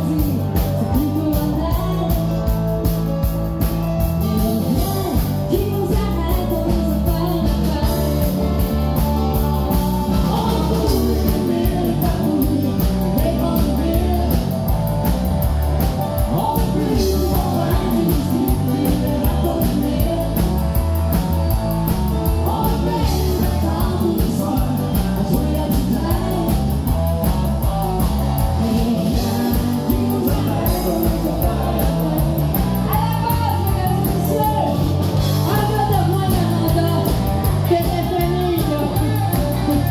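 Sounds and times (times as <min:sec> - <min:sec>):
woman singing: 0:00.0 - 0:02.6, 0:04.2 - 0:14.8, 0:16.2 - 0:20.8, 0:22.2 - 0:27.0, 0:28.6 - 0:39.9
live band music: 0:00.0 - 0:39.9.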